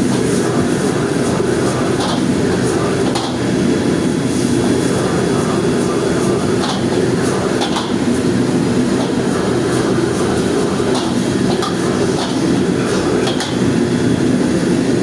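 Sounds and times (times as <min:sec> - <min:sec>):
gas burner rushing: 0:00.0 - 0:15.0.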